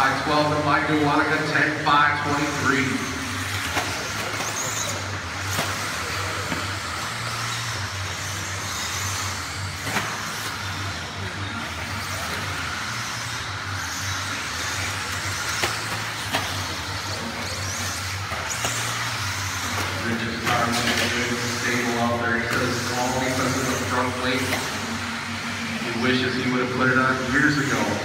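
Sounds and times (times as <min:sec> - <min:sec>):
whir of rc car motors: 0:00.0 - 0:28.0.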